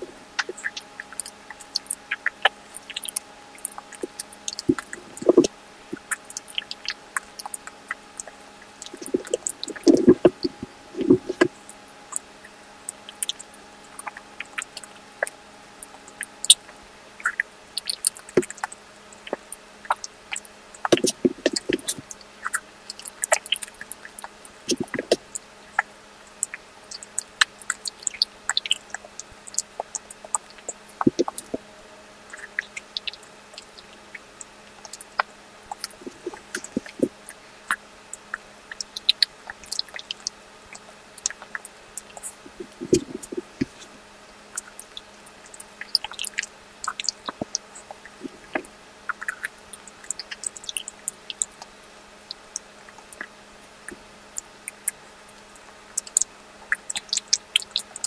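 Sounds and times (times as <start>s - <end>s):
mouth clicks and chewing: 0.0s - 31.6s, 32.3s - 58.0s.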